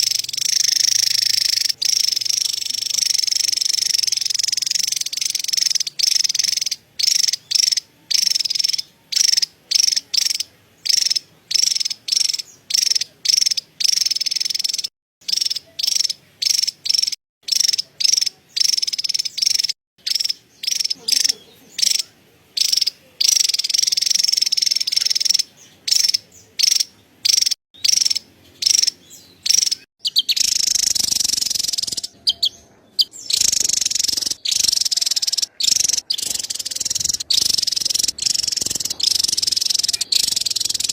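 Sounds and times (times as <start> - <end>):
bird buzzy chattering call: 0.0 - 40.9.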